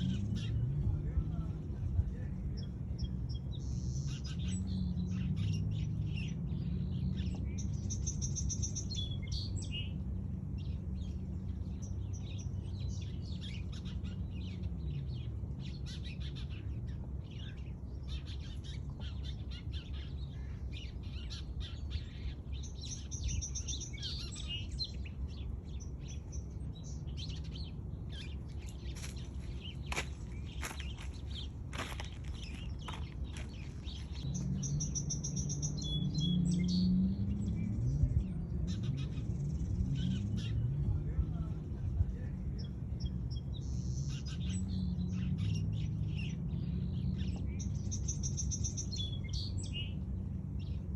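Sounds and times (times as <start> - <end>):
low background rumble: 0.0 - 50.9
small birds chirping: 0.0 - 50.9.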